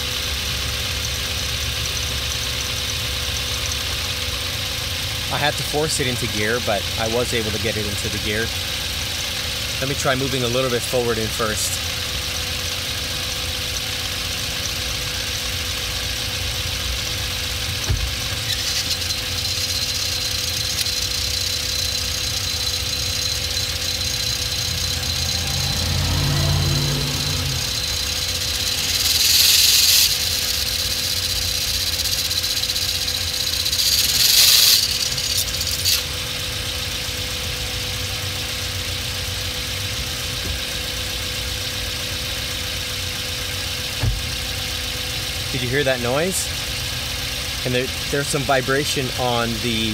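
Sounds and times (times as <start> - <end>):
car engine running: 0.0 - 49.9
high steady clutch squeal: 0.0 - 49.9.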